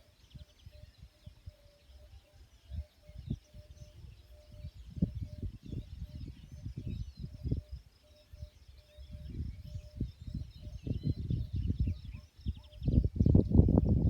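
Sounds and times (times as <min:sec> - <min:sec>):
birds or insects chirping: 0:00.0 - 0:14.0.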